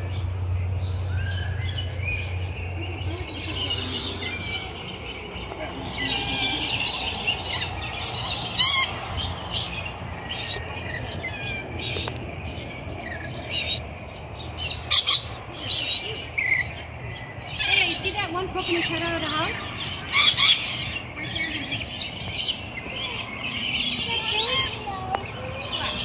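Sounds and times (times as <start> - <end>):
birds chirping and squawking: 0.0 - 26.0.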